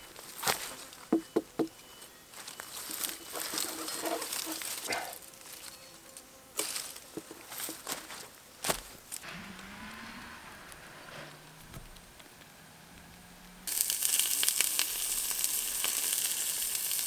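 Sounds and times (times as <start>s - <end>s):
rustling: 0.0s - 1.1s, 1.9s - 17.0s
insects buzzing: 0.0s - 17.0s.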